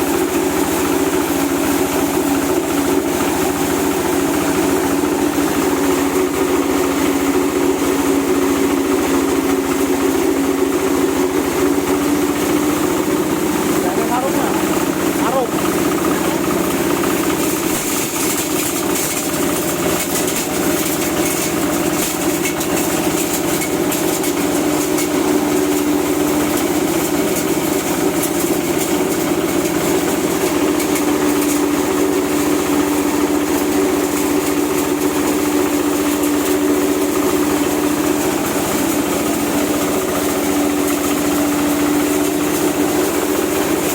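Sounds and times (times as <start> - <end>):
coffee huller mechanical drone: 0.0 - 43.9.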